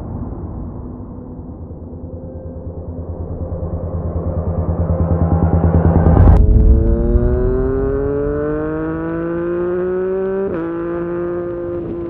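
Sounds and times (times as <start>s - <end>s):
engine accelerating: 2.0s - 12.0s.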